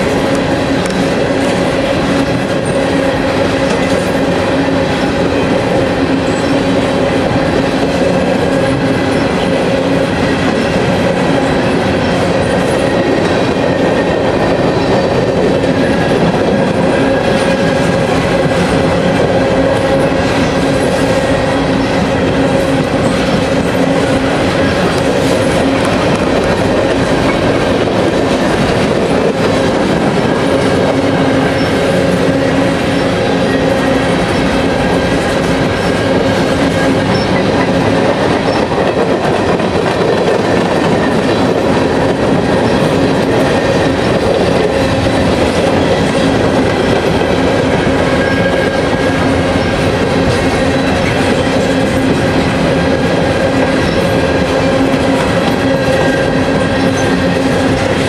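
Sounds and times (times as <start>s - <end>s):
train wheels clattering over rails: 0.0s - 58.0s.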